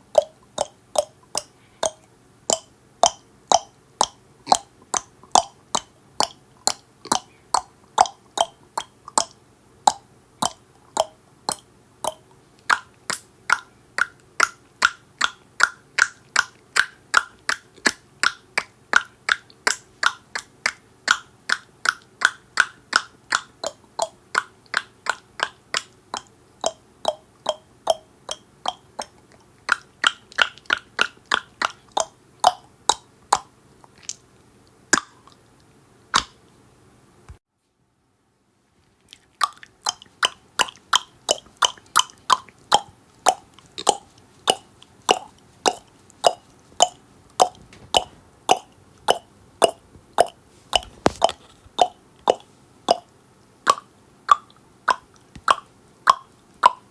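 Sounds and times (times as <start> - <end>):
tongue clicking: 0.0 - 34.3, 34.9 - 35.4, 36.1 - 36.4, 39.1 - 56.9.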